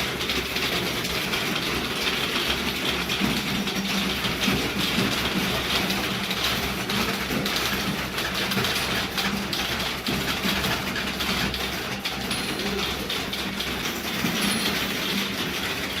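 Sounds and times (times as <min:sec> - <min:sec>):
keyboard typing clatter: 0:00.0 - 0:16.0.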